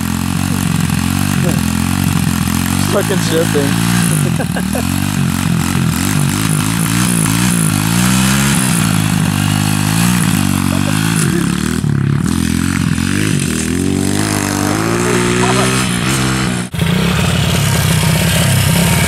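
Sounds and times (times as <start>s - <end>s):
small motorbike engine revving: 0.0s - 19.0s.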